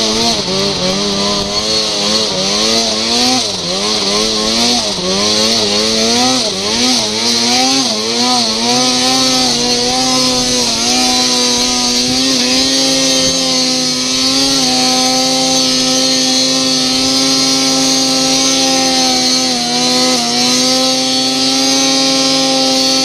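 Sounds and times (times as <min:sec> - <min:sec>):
snowmobile engine at high revs: 0:00.0 - 0:23.0.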